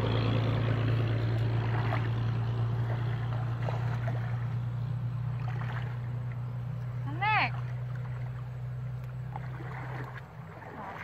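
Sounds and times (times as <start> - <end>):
small engine humming: 0.0 - 11.0.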